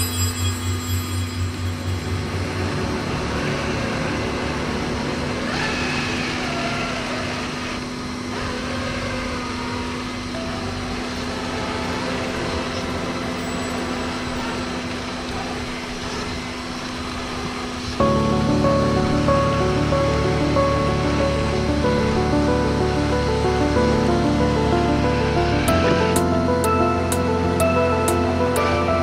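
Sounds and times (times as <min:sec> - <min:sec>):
motor whines: 0:00.0 - 0:28.9.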